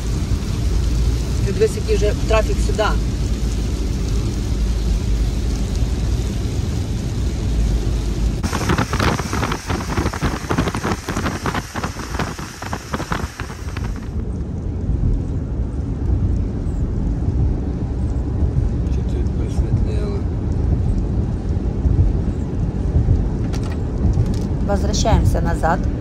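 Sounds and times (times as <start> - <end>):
rain spattering: 0.0 - 25.7
tyres rumbling on wet road: 0.0 - 26.0
wind rushing through car window: 0.0 - 26.0.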